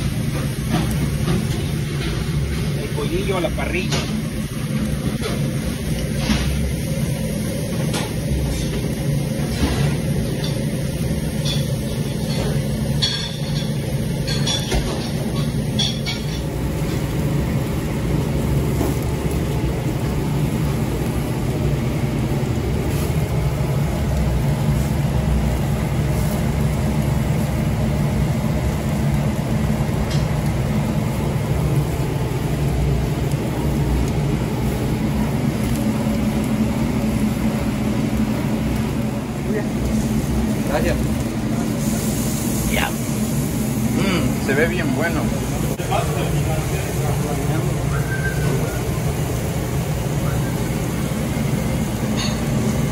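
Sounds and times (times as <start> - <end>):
charbroiler flame rumble and hiss: 0.0 - 52.9
meat crackling on grill: 0.0 - 52.9.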